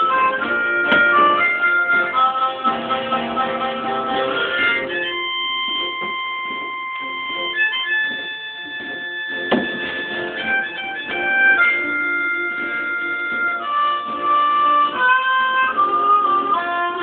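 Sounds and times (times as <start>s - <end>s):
blues harmonica: 0.0s - 17.0s
guitar picking: 0.0s - 17.0s.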